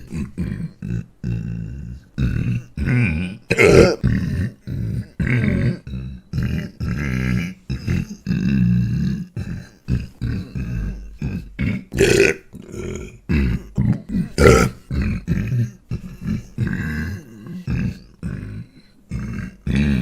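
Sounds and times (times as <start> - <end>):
man burping: 0.0 - 20.0.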